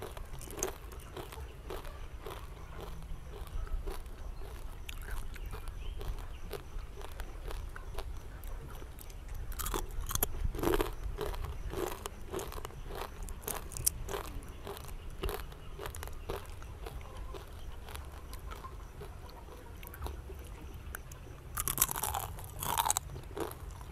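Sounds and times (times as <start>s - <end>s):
crunching chips: 0.0s - 23.9s.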